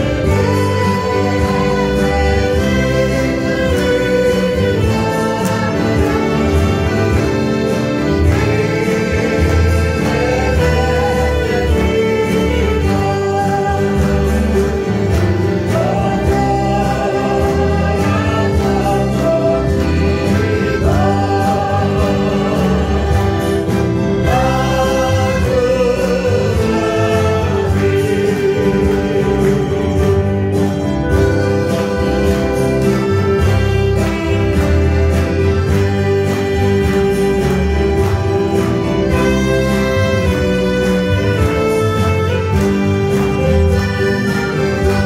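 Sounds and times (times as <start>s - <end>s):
accordion: 0.0s - 45.0s
guitars: 0.0s - 45.0s
people singing: 0.0s - 45.0s
saxophone: 0.0s - 45.0s.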